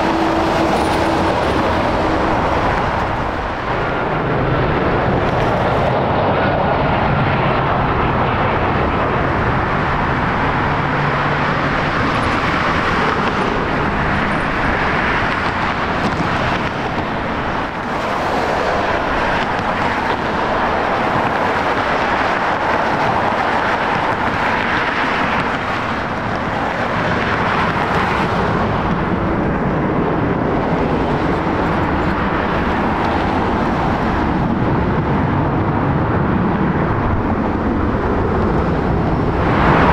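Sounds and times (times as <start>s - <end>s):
jet airliner engines running: 0.0s - 39.9s.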